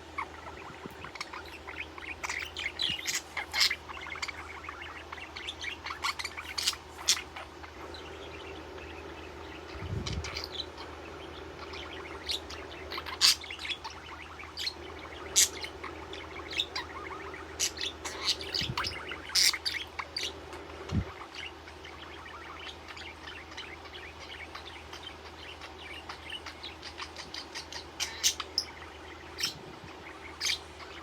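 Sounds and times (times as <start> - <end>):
budgie chirping: 0.0 - 31.0.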